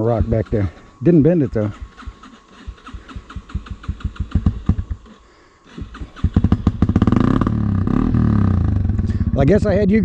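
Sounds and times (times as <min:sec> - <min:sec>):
motorcycle engine idling and revving: 0:00.0 - 0:10.0.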